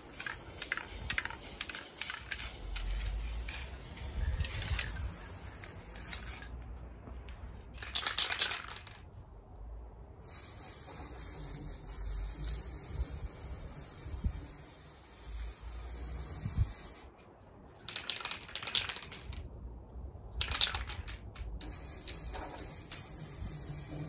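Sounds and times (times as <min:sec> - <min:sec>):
spray can ball rattling: 0:00.0 - 0:06.6, 0:07.8 - 0:09.1, 0:10.2 - 0:17.1, 0:17.8 - 0:19.5, 0:20.4 - 0:24.0.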